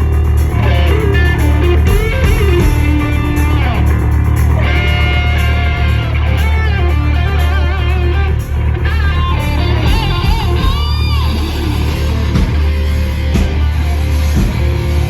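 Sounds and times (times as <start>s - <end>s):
bass and drums: 0.0s - 15.0s
electric guitar lead: 0.0s - 15.0s.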